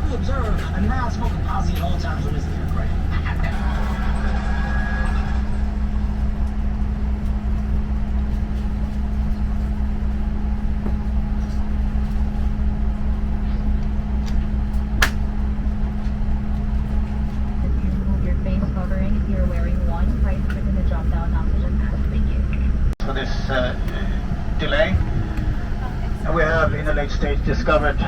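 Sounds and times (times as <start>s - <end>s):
airliner cabin hum: 0.0s - 28.0s.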